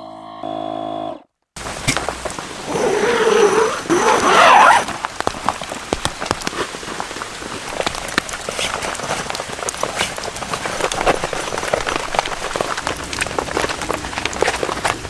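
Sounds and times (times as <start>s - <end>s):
rain ticking on tent fabric: 1.6s - 15.0s
wavering rustle: 1.6s - 15.0s.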